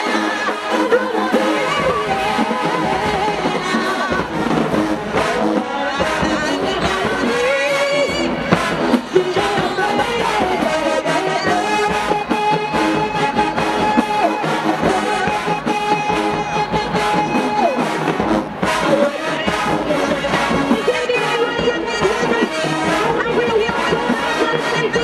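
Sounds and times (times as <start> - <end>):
drums: 0.0 - 25.0
marching band brass: 0.0 - 25.0.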